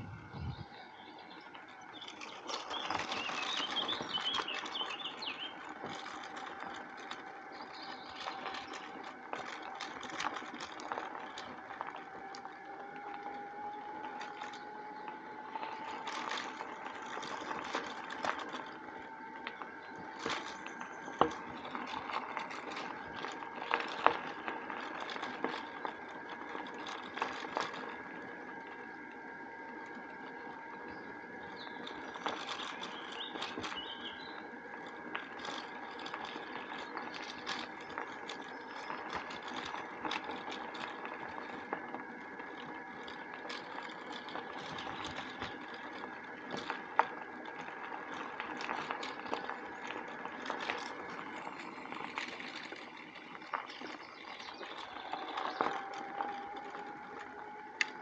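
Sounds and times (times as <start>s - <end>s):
bicycle tyres on path: 0.0s - 58.0s
bike rattling over bumps: 0.0s - 58.0s
faint continuous whine: 0.0s - 58.0s.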